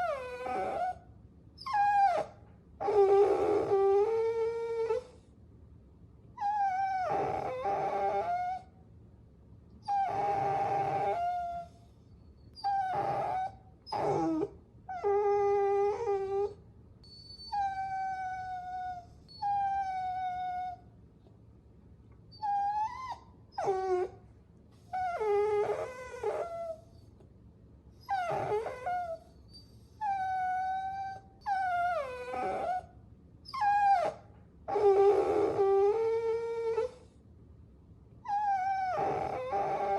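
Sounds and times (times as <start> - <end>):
puppy whining: 0.0 - 5.3, 6.4 - 8.8, 9.8 - 21.0, 22.3 - 27.2, 27.9 - 37.2, 38.2 - 39.9.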